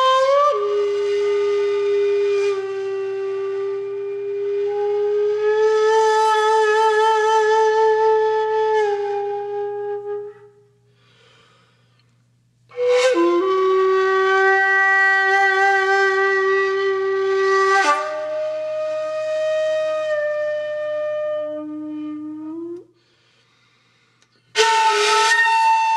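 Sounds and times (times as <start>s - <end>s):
flute-like wind instrument: 0.0s - 10.9s, 12.7s - 22.9s, 24.5s - 25.9s.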